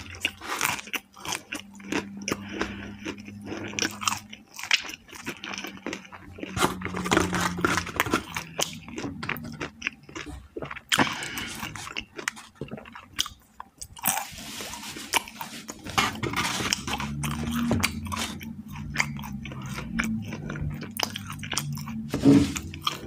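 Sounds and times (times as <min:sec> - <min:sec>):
chewing crispy fried chicken: 0:00.0 - 0:23.0.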